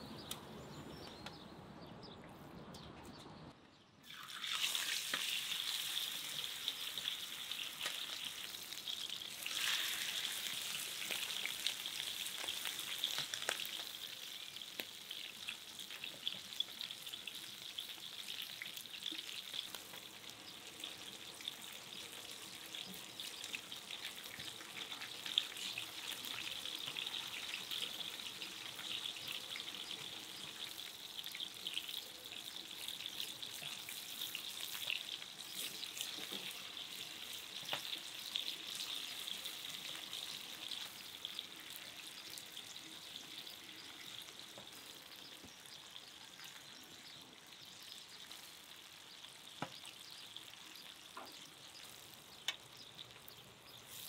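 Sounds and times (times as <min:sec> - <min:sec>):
food sizzling in hot oil: 0:04.0 - 0:54.0.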